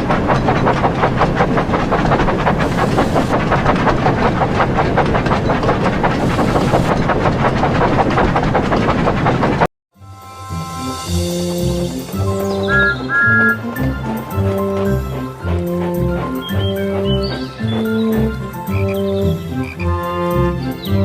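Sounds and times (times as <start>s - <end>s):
steam locomotive chuffing: 0.0s - 9.7s, 10.6s - 21.0s.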